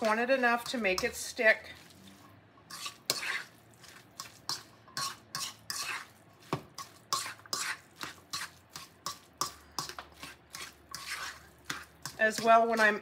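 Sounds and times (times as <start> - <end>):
metal utensil scraping bowl: 0.0 - 6.2, 6.8 - 13.0.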